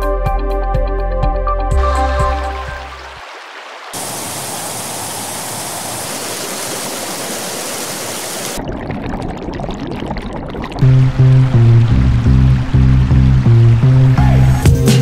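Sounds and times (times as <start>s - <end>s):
rushing splashing water: 1.8s - 14.7s.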